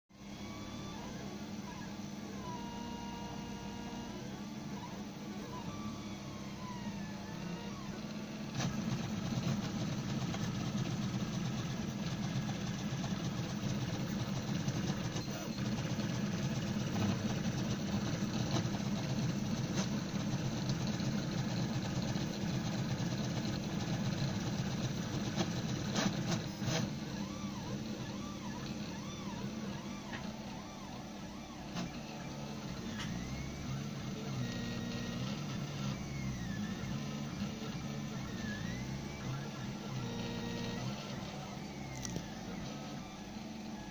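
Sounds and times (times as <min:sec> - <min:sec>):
stepper motors buzzing and whining: 0:00.2 - 0:43.9.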